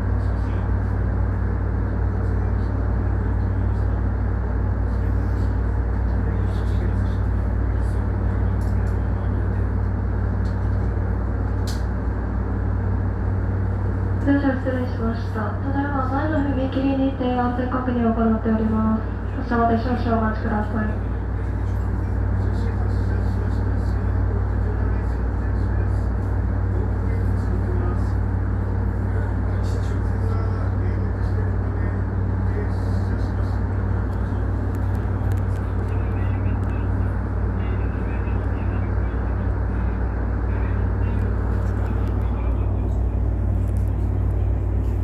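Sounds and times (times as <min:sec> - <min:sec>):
train car hum: 0:00.0 - 0:45.0.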